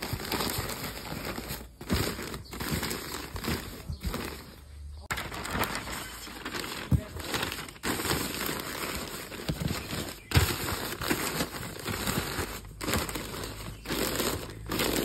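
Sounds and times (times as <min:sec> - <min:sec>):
newspaper rustling and crinkling: 0:00.0 - 0:15.0.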